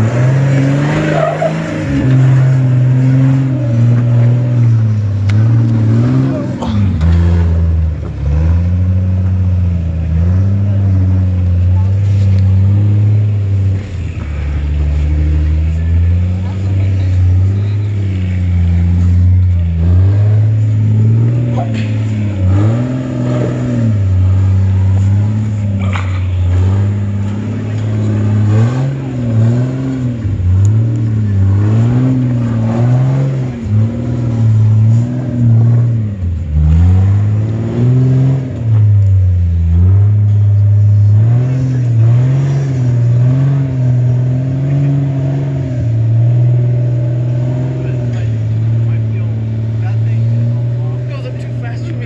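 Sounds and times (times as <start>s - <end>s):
engine revving under load: 0.0s - 52.0s.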